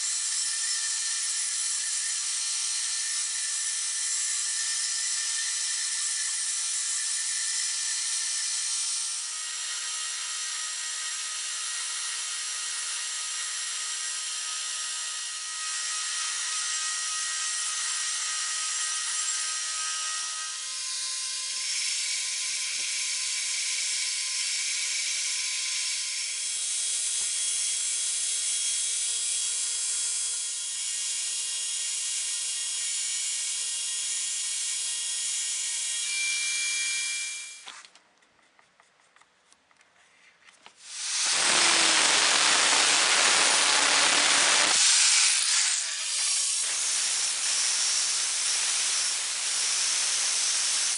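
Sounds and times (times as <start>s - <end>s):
electric grinder on steel: 0.0s - 37.6s, 40.8s - 50.9s.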